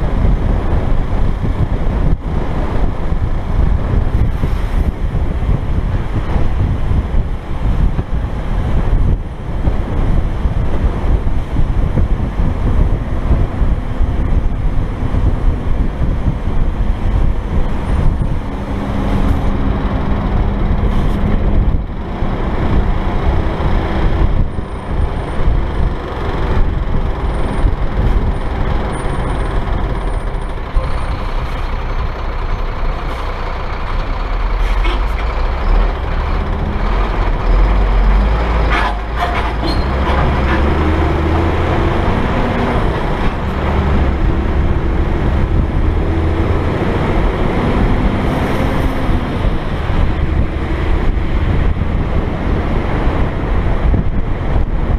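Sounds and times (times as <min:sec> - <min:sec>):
diesel engine running: 0:00.0 - 0:54.9
wind rumble on microphone: 0:00.0 - 0:54.9.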